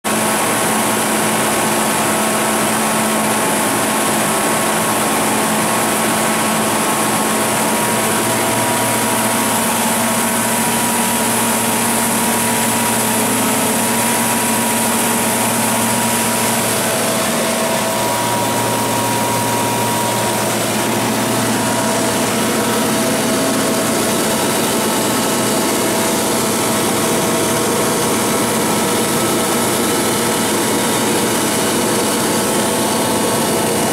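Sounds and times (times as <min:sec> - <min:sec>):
generator engine running: 0:00.1 - 0:33.9.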